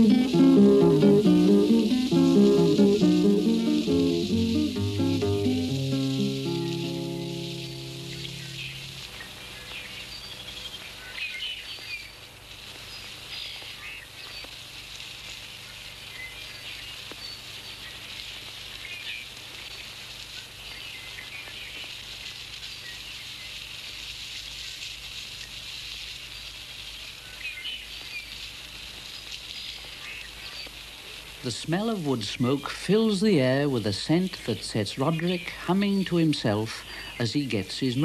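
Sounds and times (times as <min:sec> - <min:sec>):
small birds chirping: 0:00.0 - 0:38.0
steady hiss: 0:00.0 - 0:38.0.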